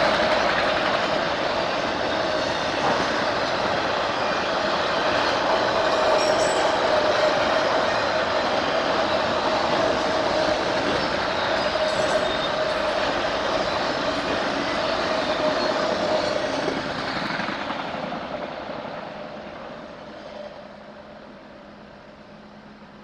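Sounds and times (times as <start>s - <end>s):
train rolling past: 0.0s - 23.0s.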